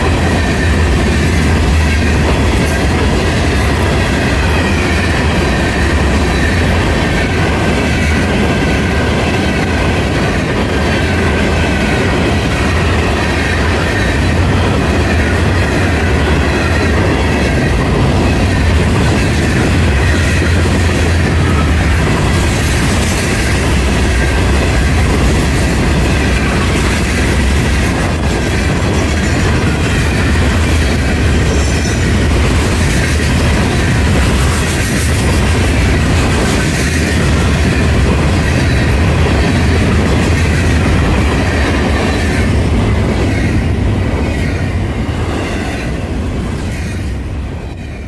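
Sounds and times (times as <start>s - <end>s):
freight train rumbling past: 0.0s - 48.0s.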